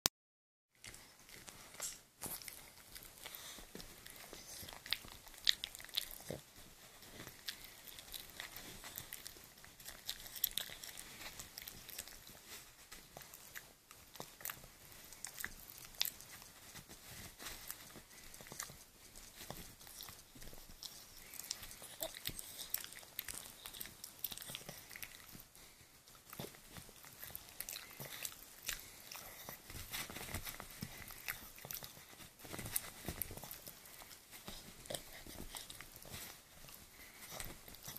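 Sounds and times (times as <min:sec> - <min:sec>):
dog chewing dental stick: 0:00.9 - 0:37.9.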